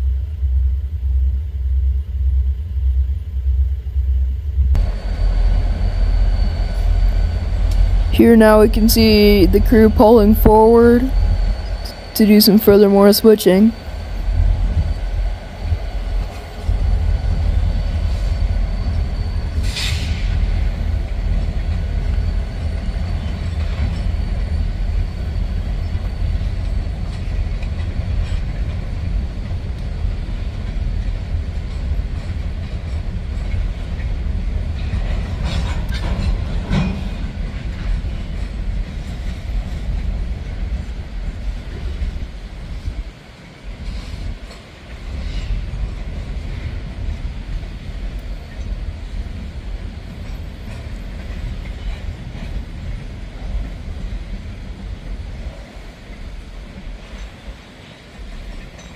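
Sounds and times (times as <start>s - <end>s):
freight train rumbling: 0.0s - 58.9s.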